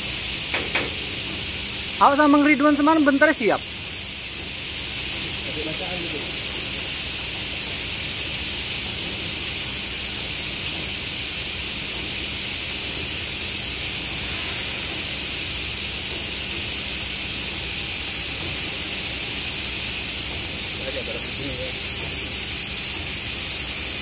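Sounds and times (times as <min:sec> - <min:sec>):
palm kernels pouring from a chute: 0:00.0 - 0:24.0.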